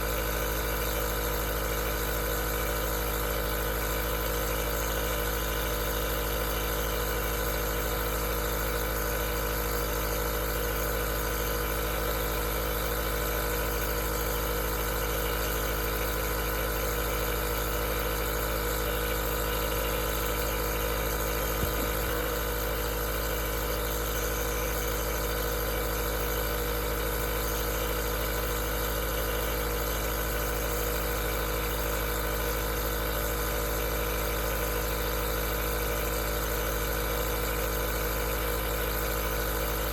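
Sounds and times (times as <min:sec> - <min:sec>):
nebulizer motor hum: 0:00.0 - 0:39.9.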